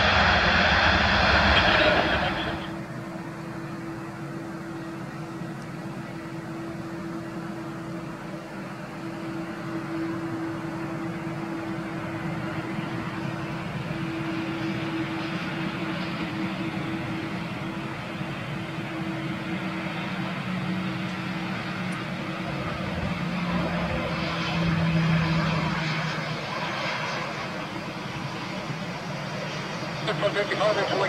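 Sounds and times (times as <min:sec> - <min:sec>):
jet engines humming: 0:00.0 - 0:31.0.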